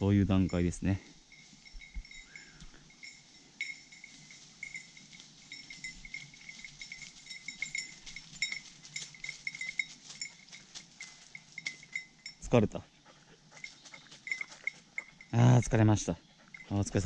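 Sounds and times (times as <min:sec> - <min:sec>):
small metal bell jingling: 0:00.0 - 0:17.0.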